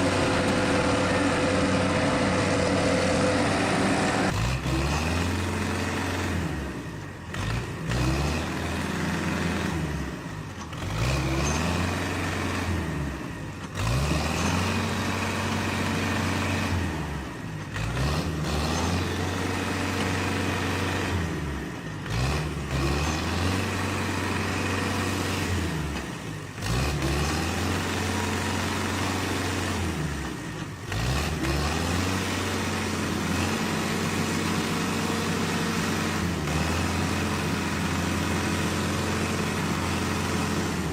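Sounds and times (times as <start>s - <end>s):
tractor engine revving under load: 0.0s - 40.9s.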